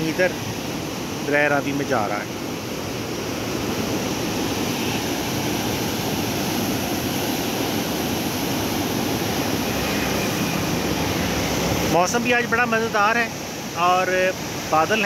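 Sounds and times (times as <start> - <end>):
water rushing through gate: 0.0 - 15.0.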